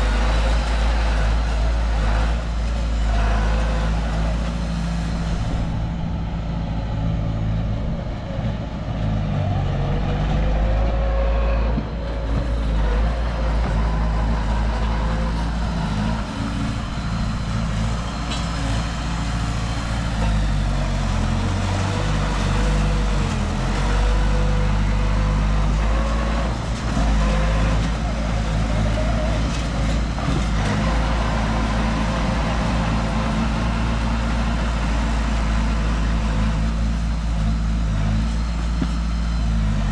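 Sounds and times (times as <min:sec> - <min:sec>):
diesel machinery under load: 0:00.0 - 0:39.9.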